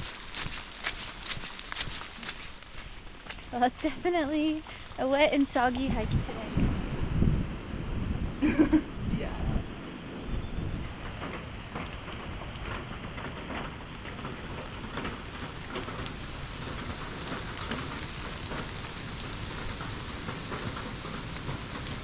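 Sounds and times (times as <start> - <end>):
raindrops pattering on surfaces: 0.0 - 22.0.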